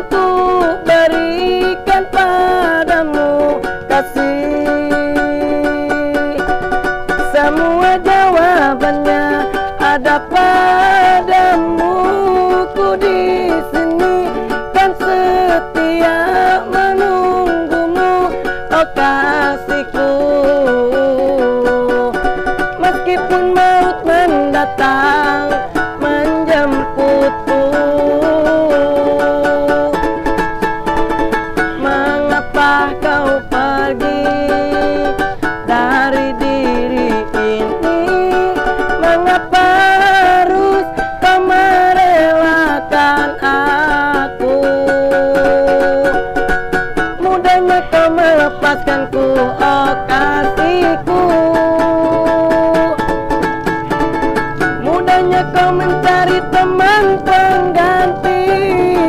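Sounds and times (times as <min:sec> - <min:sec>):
person singing: 0:00.0 - 0:59.0
strummed string instrument: 0:00.0 - 0:59.0.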